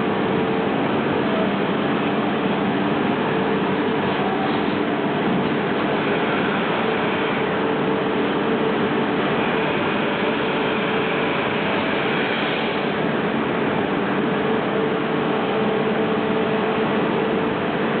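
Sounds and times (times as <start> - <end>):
lathe running with hum: 0.0 - 18.0.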